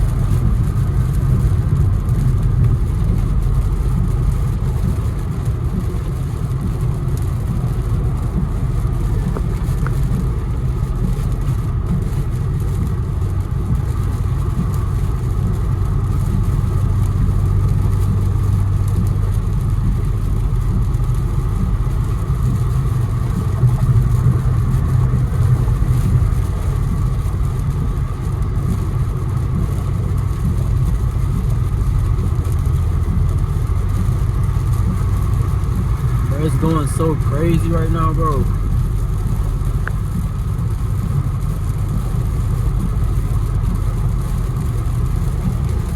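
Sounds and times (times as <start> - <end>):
car engine: 0.0 - 45.9
road noise on wet road: 0.0 - 45.9.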